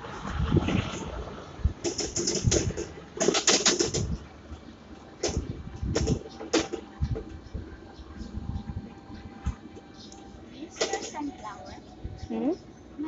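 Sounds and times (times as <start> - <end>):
sidecar rattling: 0.0 - 4.4, 5.0 - 8.6, 9.2 - 12.3.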